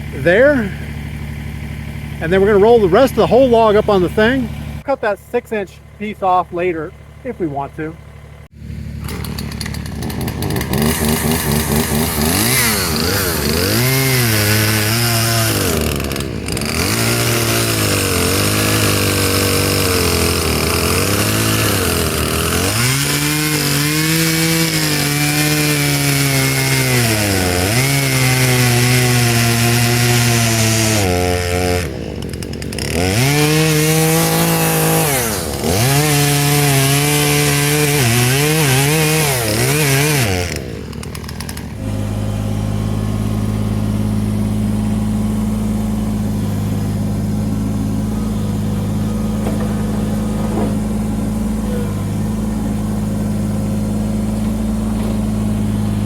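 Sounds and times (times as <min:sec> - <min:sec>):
chainsaw cutting a log: 0:00.0 - 0:05.0, 0:08.9 - 0:56.0.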